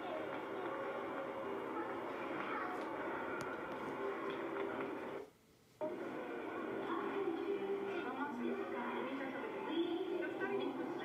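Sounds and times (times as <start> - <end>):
background noise with faint hum: 0.0 - 11.0.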